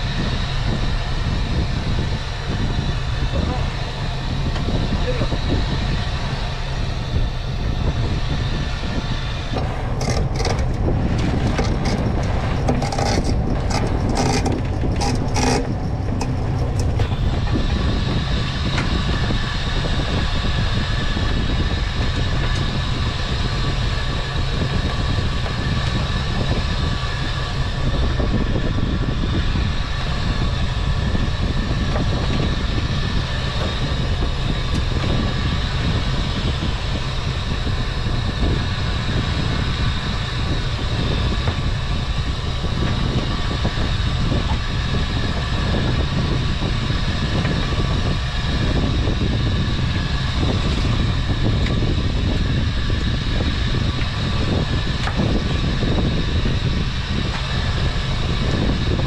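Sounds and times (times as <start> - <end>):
boat engine and hauler running: 0.0 - 59.0.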